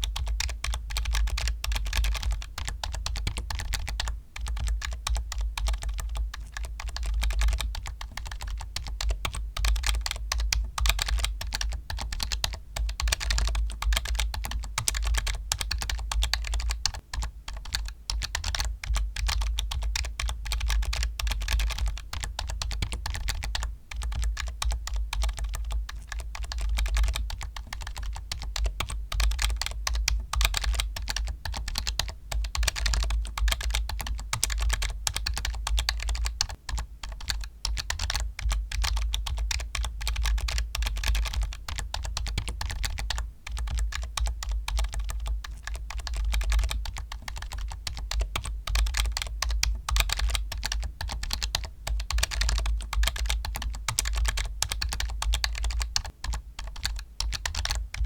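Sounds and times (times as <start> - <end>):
fast typing on computer keyboard: 0.0 - 58.0.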